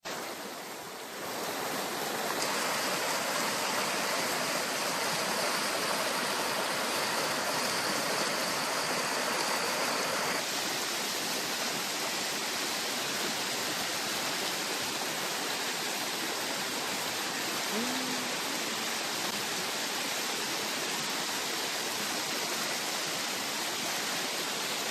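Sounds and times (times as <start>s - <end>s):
waterfall rushing water: 0.0s - 24.9s.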